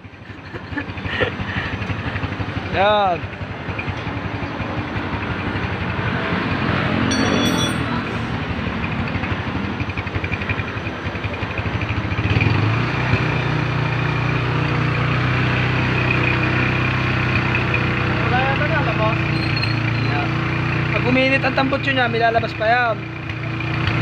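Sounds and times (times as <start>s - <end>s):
single-cylinder engine running: 0.0s - 24.0s.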